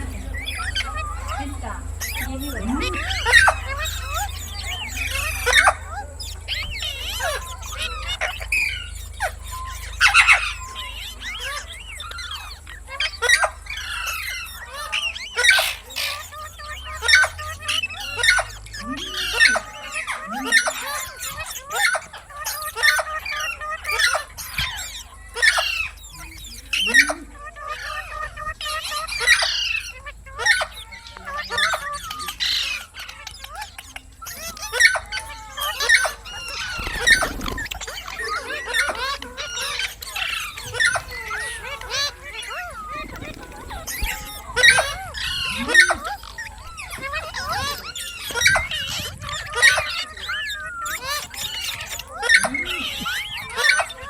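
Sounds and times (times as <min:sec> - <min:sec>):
parakeet squawking: 0:00.0 - 0:54.0.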